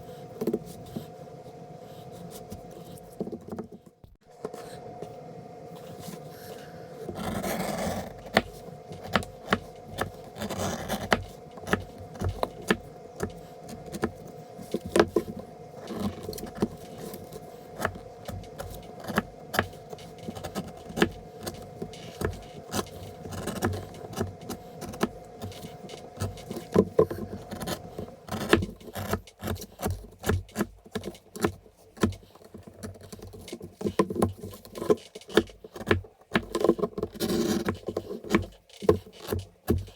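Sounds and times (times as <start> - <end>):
faint steady hum: 0.0 - 39.9
taps and scraping of materials: 2.1 - 39.9.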